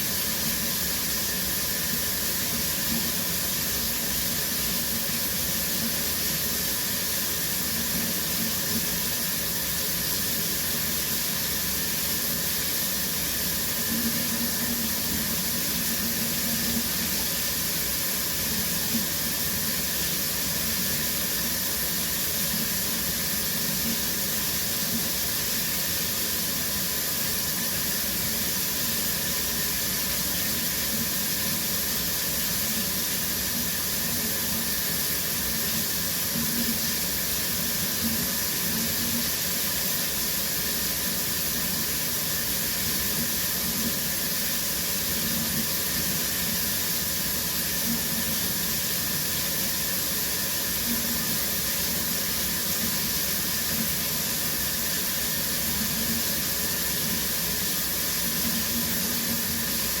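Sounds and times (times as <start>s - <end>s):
shower water running: 0.0s - 60.0s.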